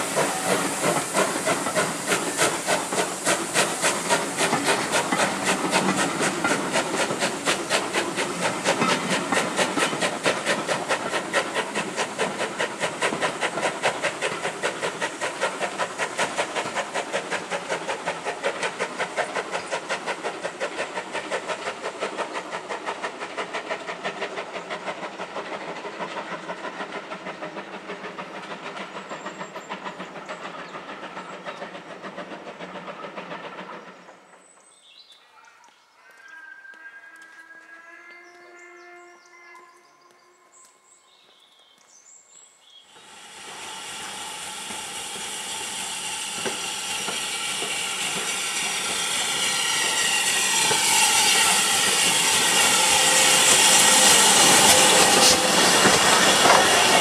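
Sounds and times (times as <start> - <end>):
steam locomotive chuffing: 0.0 - 34.8, 42.9 - 57.0.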